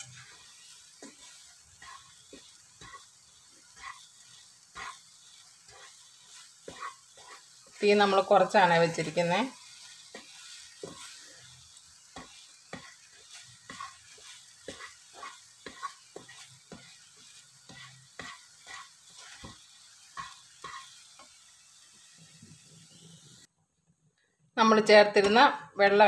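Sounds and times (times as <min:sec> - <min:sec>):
spatula scraping a pan: 0:00.0 - 0:23.4
faint sizzle: 0:00.0 - 0:23.5.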